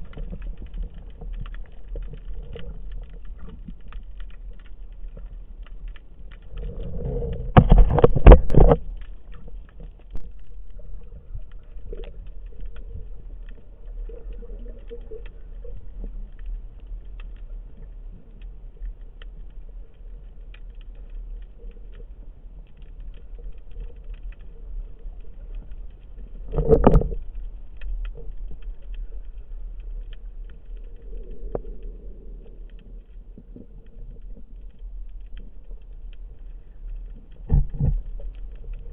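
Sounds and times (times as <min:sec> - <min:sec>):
faint continuous crackle: 0:00.0 - 0:38.9
underwater low rumble: 0:00.0 - 0:38.9.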